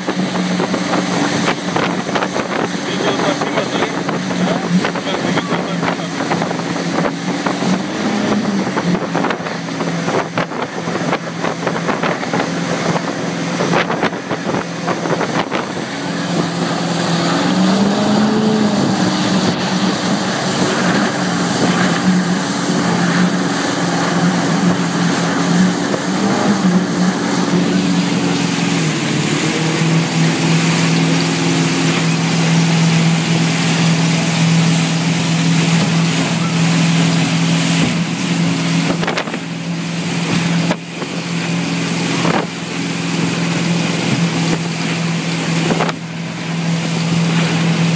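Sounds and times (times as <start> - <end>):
motorboat engine drone: 0.0 - 47.9
sharp water splashes: 0.0 - 47.9
wind buffeting microphone: 0.0 - 47.9.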